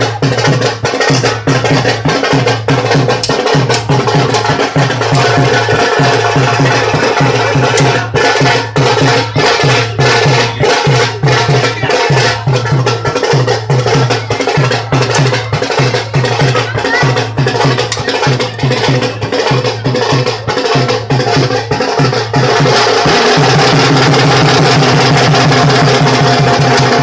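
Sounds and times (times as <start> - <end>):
drums beating fast rhythm: 0.0 - 27.0.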